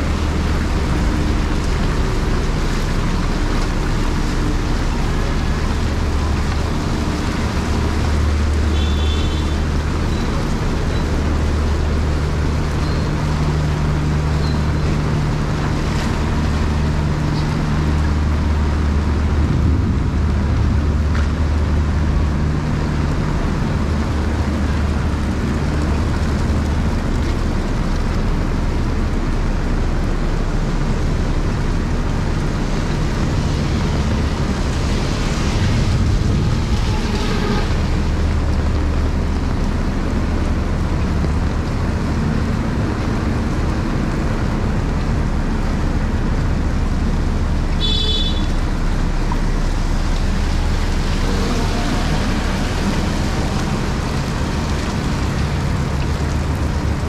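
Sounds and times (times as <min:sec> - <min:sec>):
auto-rickshaw engine: 0:00.0 - 0:57.0
heavy rain on a road: 0:00.0 - 0:57.0
low engine hum: 0:00.0 - 0:57.0.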